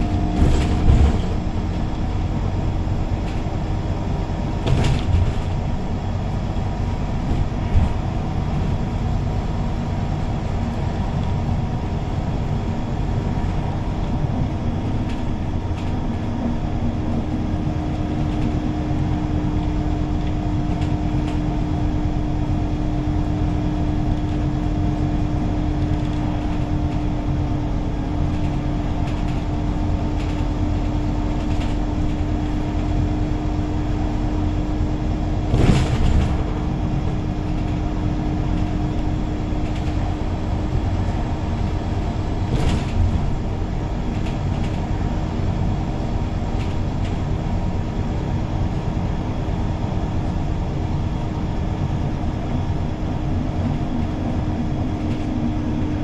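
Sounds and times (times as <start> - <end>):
bus engine drone: 0.0 - 56.0.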